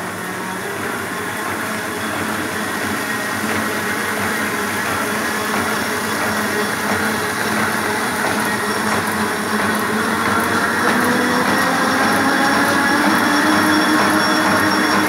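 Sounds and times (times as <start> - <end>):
machine rollers and moving paper: 0.0 - 15.0.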